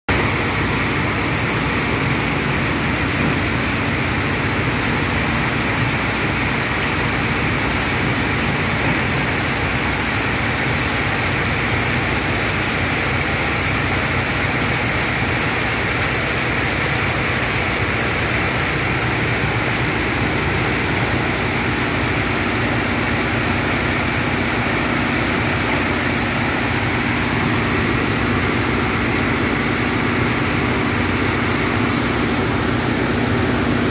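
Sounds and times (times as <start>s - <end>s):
rainwater pouring onto concrete: 0.1s - 33.9s.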